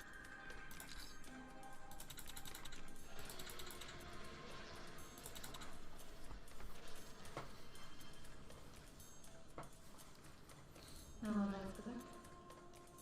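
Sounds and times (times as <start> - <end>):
soft background game music: 0.0 - 13.0.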